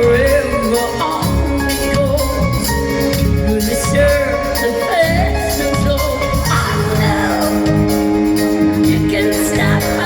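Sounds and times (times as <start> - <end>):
live rock band: 0.0 - 10.0.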